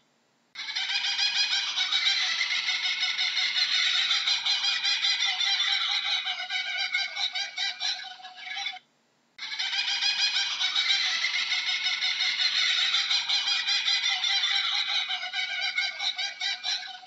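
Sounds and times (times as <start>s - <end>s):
kookaburra laughing call: 0.6s - 8.8s, 9.4s - 17.0s.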